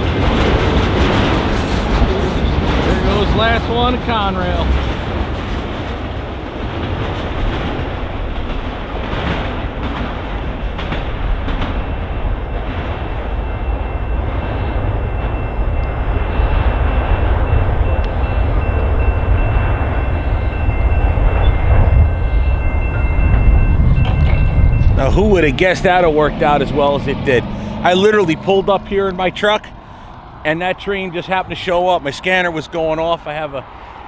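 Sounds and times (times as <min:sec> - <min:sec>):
freight train wheels rumbling on rails: 0:00.0 - 0:34.0.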